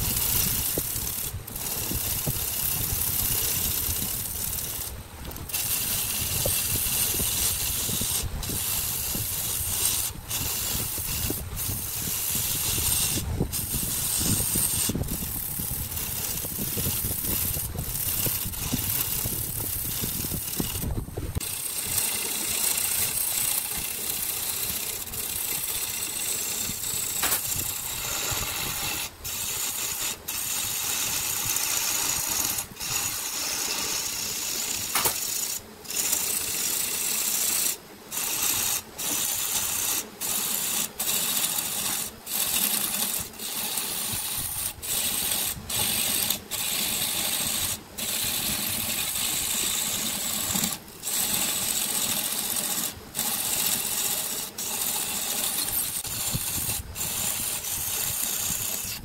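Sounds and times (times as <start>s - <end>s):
gouge hissing cut on wood: 0.0s - 59.0s
wood lathe turning: 0.0s - 59.0s.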